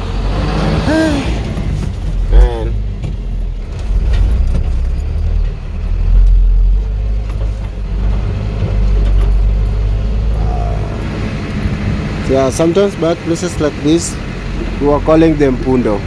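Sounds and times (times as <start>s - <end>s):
vehicle engine low rumble: 0.0s - 16.0s.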